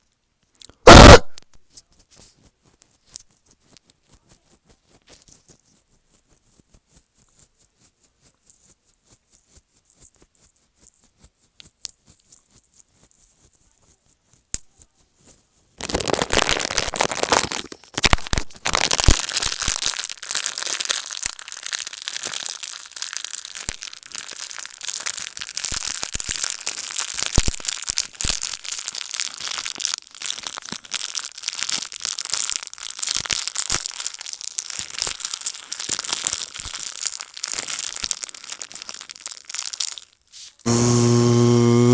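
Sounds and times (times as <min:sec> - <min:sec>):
crinkling crackling noise: 0:00.0 - 0:40.8.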